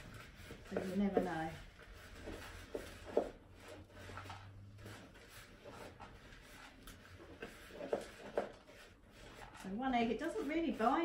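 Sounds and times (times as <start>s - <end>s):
utensil scraping in plastic bowl: 0.0s - 11.0s.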